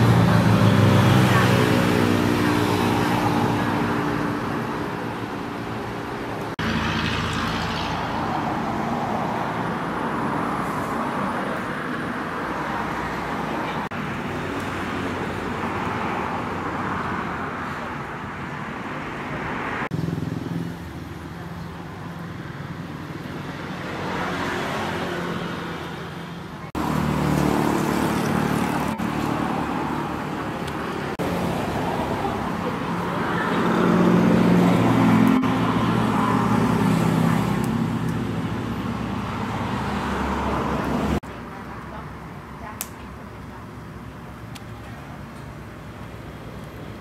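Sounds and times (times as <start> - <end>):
road traffic engine hum: 0.0 - 47.0.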